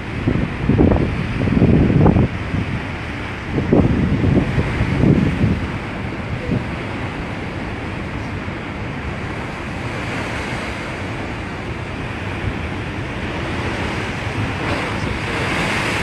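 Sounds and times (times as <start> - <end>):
steady rushing noise: 0.0 - 16.0
wind buffeting microphone: 0.0 - 16.0.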